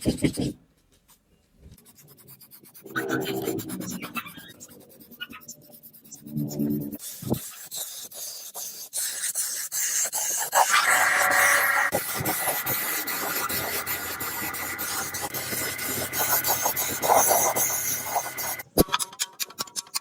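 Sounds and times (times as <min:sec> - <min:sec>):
scraping and rubbing on metal: 0:01.8 - 0:18.6.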